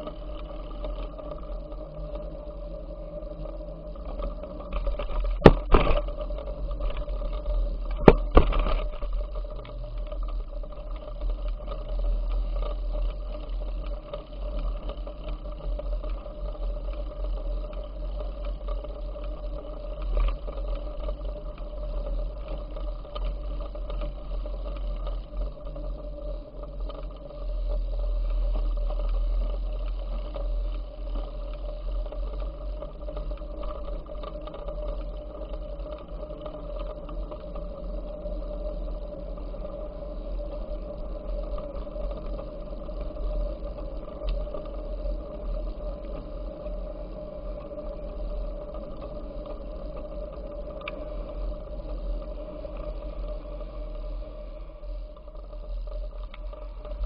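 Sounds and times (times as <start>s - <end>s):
constant hum: 0.0s - 57.0s
wind rumble on microphone: 0.0s - 57.0s.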